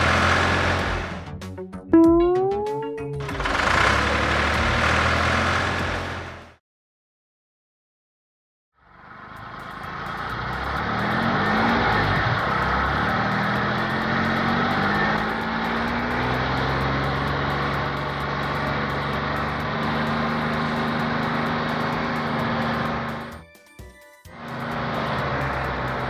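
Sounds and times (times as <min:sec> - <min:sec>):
vehicle engine running: 0:00.0 - 0:01.5, 0:02.8 - 0:06.6, 0:08.8 - 0:23.5, 0:24.3 - 0:26.0.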